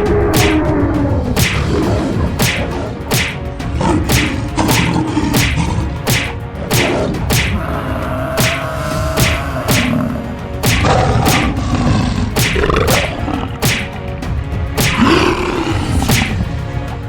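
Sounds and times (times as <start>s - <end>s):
action soundtrack music: 0.0s - 17.0s.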